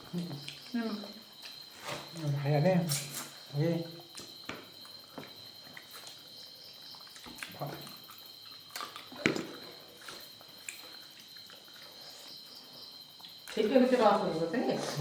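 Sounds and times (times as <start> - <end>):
cricket trill: 0.0 - 15.0.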